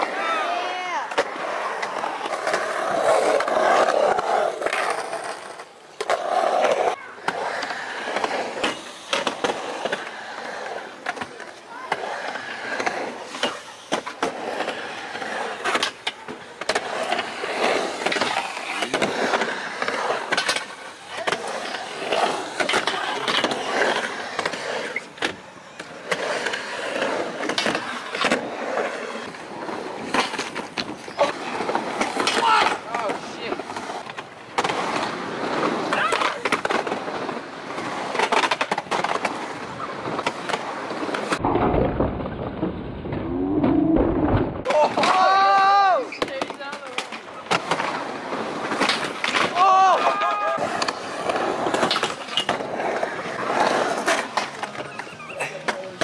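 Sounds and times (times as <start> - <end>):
skateboard clacking on concrete: 0.0 - 41.6, 44.6 - 56.0
skateboard wheels rolling on concrete: 0.0 - 56.0.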